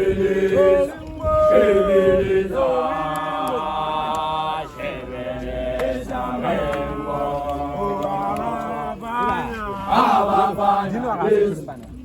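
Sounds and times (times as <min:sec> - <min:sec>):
group of voices chanting: 0:00.0 - 0:11.6.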